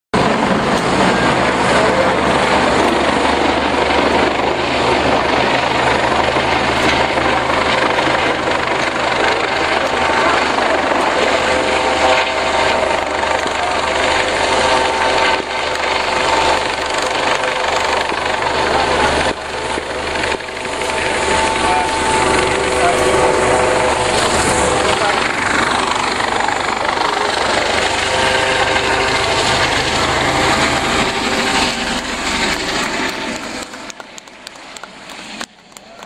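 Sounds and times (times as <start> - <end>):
helicopter flying overhead: 0.2 - 36.0
turbine whine: 0.2 - 36.0.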